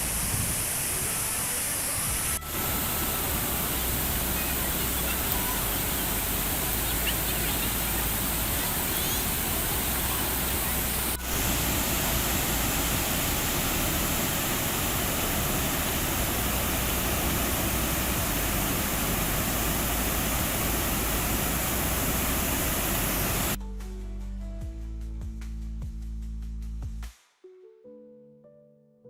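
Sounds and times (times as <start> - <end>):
waterfall rushing: 0.0 - 23.6.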